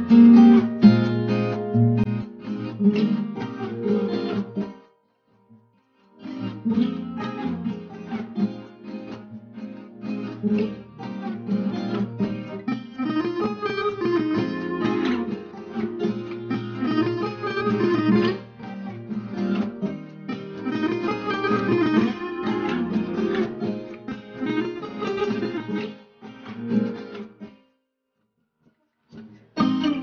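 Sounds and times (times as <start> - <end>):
plucked string music: 0.0 - 27.6, 29.2 - 30.0.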